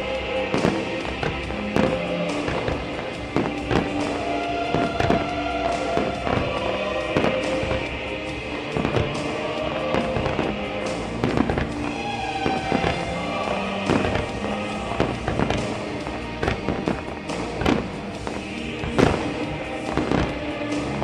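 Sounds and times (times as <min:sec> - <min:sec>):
fireworks bursting: 0:00.0 - 0:21.0
music over loudspeakers: 0:00.0 - 0:21.0.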